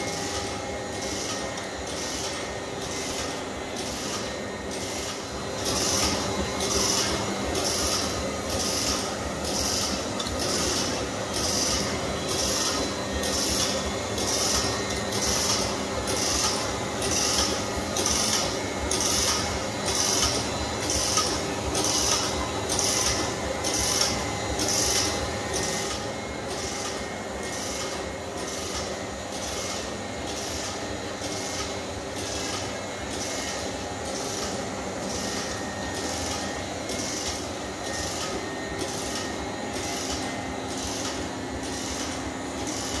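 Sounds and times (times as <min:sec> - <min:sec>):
steady motor hum: 0:00.0 - 0:43.0.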